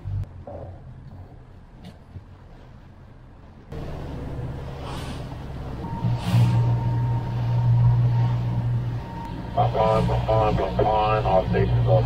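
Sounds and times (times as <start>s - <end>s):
motorboat engine humming: 0.0s - 12.0s
wind: 0.0s - 12.0s.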